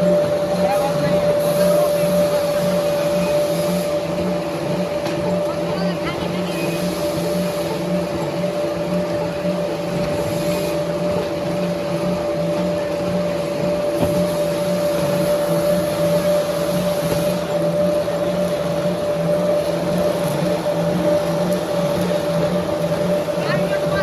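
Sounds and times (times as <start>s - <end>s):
wood-peeling machine running: 0.0s - 24.0s.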